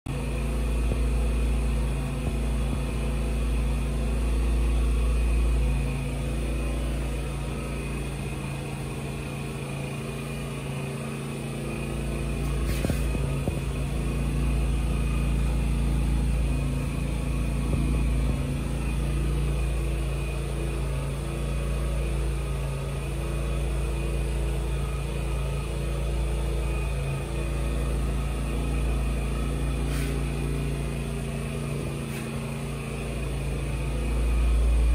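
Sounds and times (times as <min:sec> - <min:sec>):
engine running with low rumble: 0:00.1 - 0:34.9.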